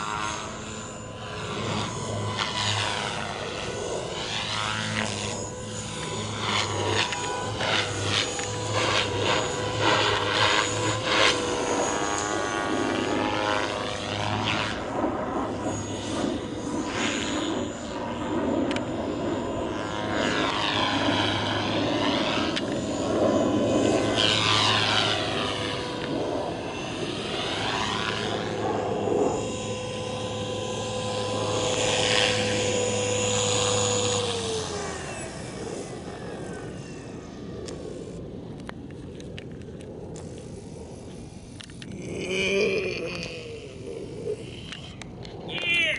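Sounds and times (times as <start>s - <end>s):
rotor blades whooshing: 0.0s - 38.4s
rc helicopter motor whine: 0.0s - 45.9s.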